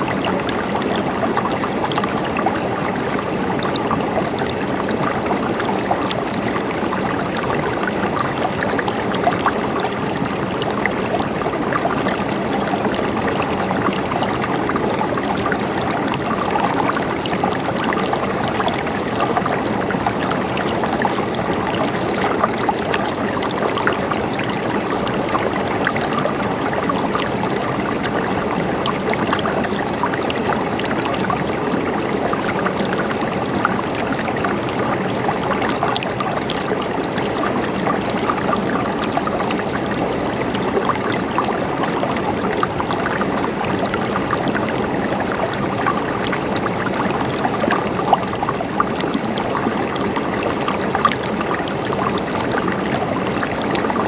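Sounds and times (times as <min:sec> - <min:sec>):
brook flowing over stones: 0:00.0 - 0:54.0.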